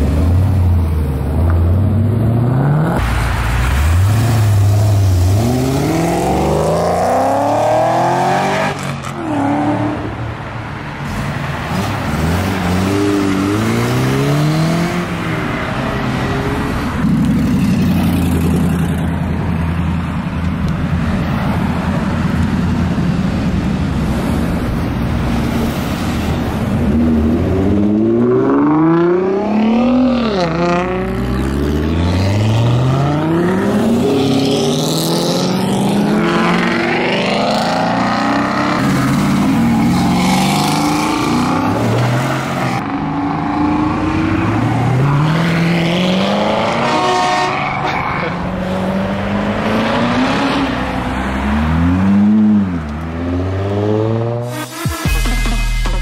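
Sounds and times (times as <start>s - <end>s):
cars revving and pulling away: 0.0s - 55.1s.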